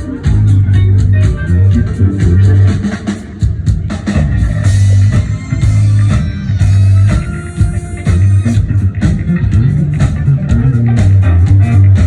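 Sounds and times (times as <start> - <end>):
drum kit beat: 0.0 - 12.0
electric guitar: 0.0 - 12.0
heavy bass line: 0.0 - 12.0.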